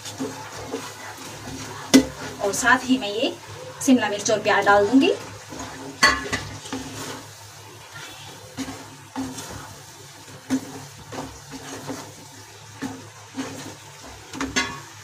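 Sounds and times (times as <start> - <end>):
wooden spatula stirring wet masala: 0.0 - 15.0.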